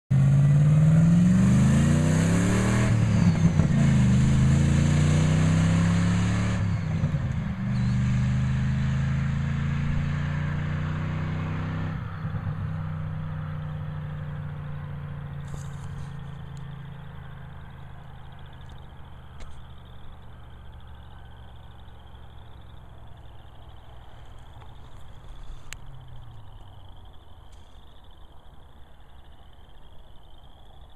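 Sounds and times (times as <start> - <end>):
truck engine accelerating: 0.1 - 28.1.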